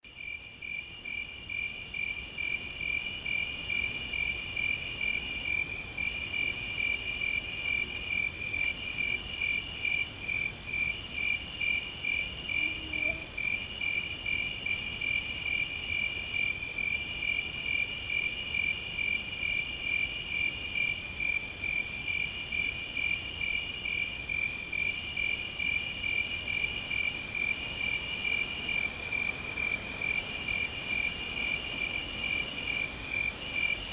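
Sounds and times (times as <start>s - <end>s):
higher insect songs: 0.1s - 33.9s.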